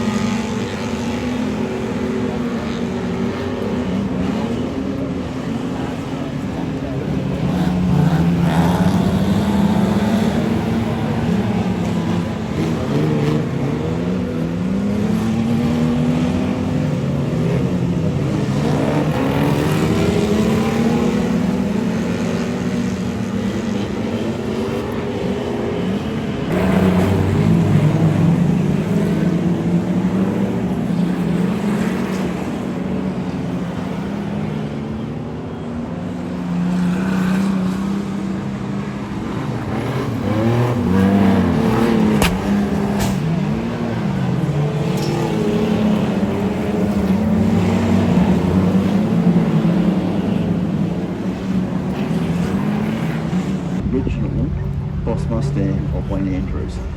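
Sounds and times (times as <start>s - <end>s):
race car engines revving: 0.0s - 56.9s.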